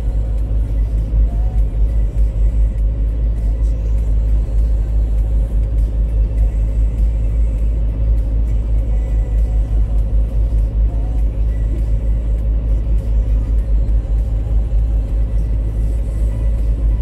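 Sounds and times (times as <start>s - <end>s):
car driving heard from inside: 0.0s - 17.0s
faint steady hum: 0.0s - 17.0s.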